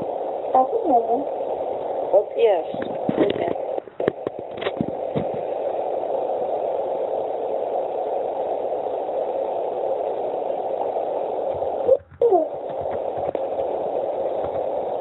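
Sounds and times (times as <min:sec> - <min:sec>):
faint steady tone: 0:00.0 - 0:15.0
static hiss: 0:00.0 - 0:15.0.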